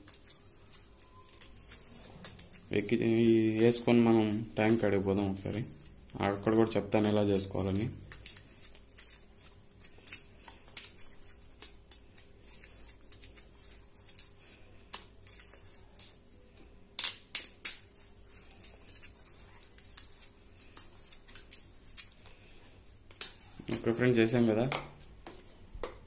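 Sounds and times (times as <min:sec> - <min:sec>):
tape crinkling and rustling: 0:00.0 - 0:16.5, 0:17.3 - 0:26.0.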